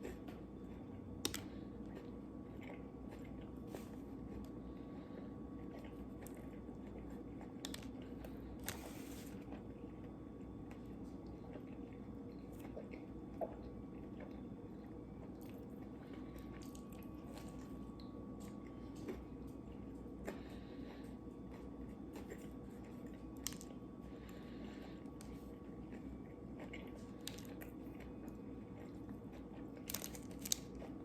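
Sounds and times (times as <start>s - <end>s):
chewing and biting food: 0.0s - 31.0s.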